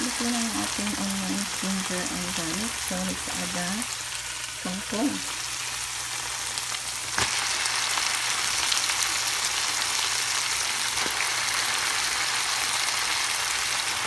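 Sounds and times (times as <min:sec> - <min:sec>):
greens sizzling in hot oil: 0:00.0 - 0:14.0.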